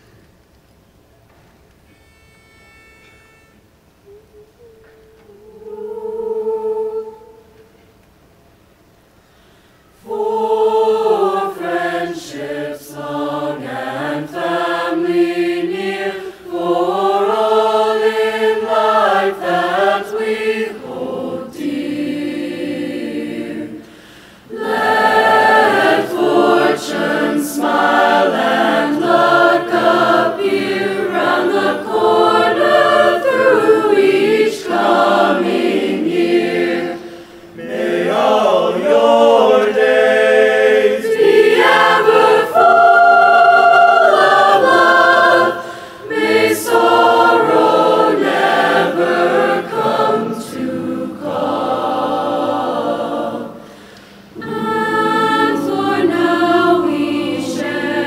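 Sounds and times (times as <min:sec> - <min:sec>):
choir singing in parts: 0:03.4 - 0:07.8, 0:09.9 - 0:58.0.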